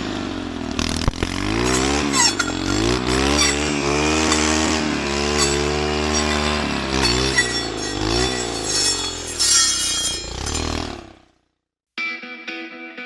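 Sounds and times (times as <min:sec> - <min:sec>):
engine revving: 0:00.0 - 0:11.4.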